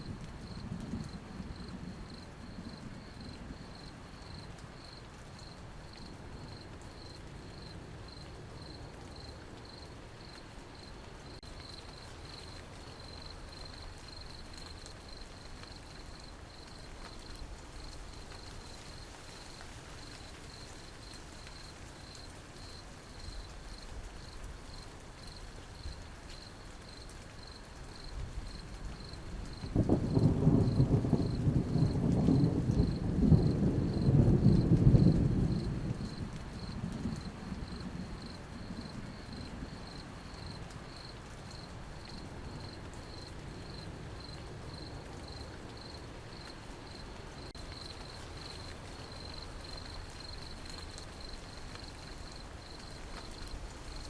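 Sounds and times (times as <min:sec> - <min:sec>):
cricket chirping: 0:00.0 - 0:54.0
steady rain: 0:00.0 - 0:54.0.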